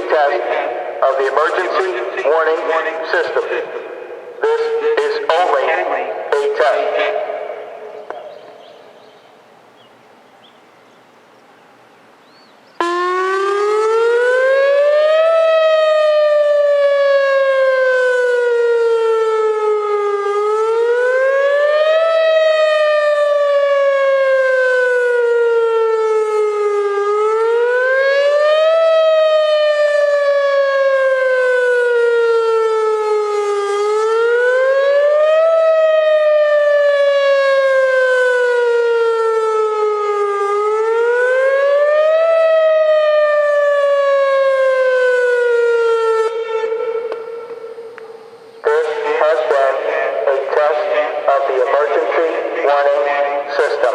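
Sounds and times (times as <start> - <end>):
warning siren wailing: 0.0 - 9.0, 12.8 - 53.9.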